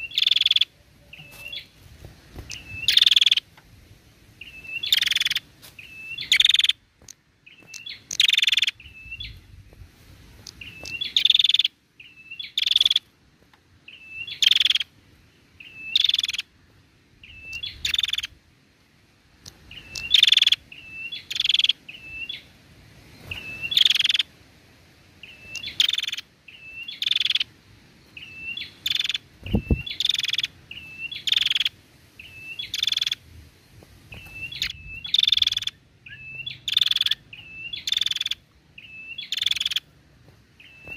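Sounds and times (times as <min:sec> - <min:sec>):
bird chips and harsh rasping calls: 0:00.0 - 0:01.8, 0:02.4 - 0:03.6, 0:04.4 - 0:09.5, 0:10.4 - 0:13.1, 0:13.8 - 0:16.6, 0:17.2 - 0:18.4, 0:19.4 - 0:22.5, 0:23.2 - 0:24.4, 0:25.2 - 0:33.3, 0:34.1 - 0:40.0, 0:40.6 - 0:40.9.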